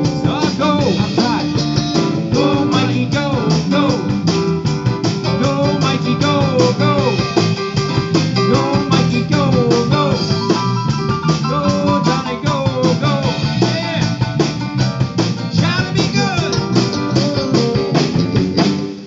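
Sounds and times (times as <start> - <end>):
bass guitar: 0.0 - 19.0
drum kit: 0.0 - 19.0
electric guitar lead bending notes: 0.0 - 19.0
electric keyboard: 0.0 - 19.0.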